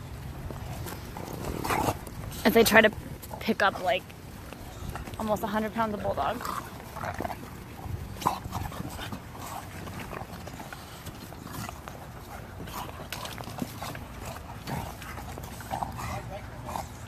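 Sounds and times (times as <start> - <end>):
dogs scuffling on cot: 0.2 - 17.0.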